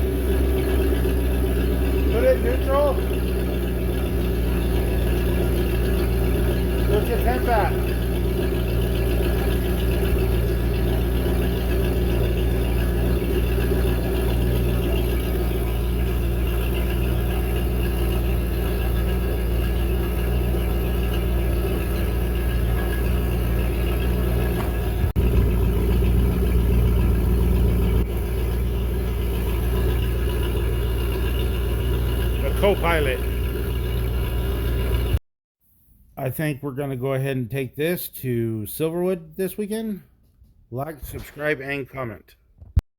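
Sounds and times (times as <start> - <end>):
boat engine idling: 0.0 - 35.2.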